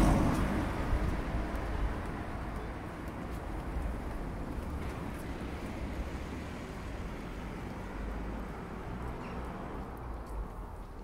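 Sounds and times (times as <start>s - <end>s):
street ambience low rumble: 0.0s - 11.0s.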